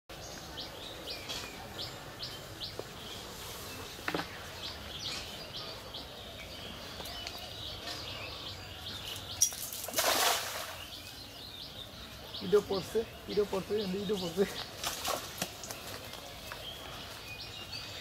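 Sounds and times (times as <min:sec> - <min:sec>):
outdoor background noise: 0:00.1 - 0:18.0
small birds chirping: 0:00.1 - 0:18.0.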